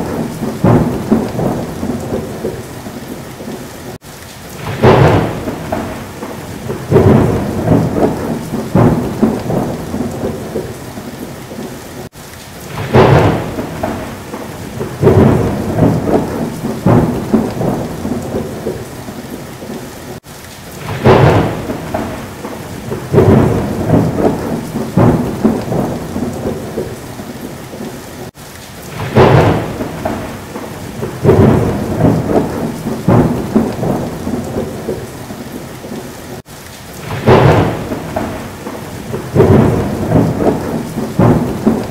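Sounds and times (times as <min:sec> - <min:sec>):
rain falling: 0:00.0 - 0:41.9
thunderclap and rolling rumbles: 0:00.0 - 0:41.9.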